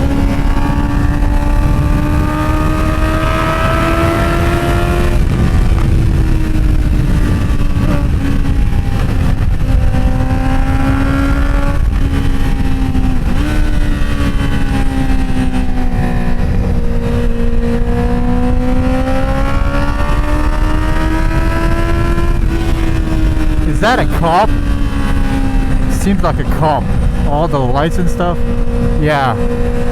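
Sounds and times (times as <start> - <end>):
motorcycle engine running: 0.0 - 29.9
wind rush: 0.0 - 29.9.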